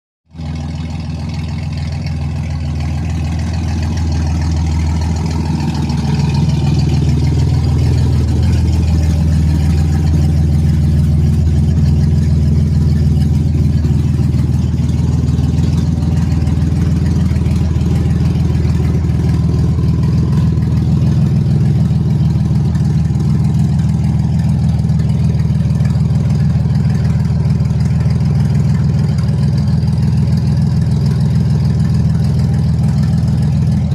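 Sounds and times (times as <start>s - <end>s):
car engine idling: 0.3s - 33.9s.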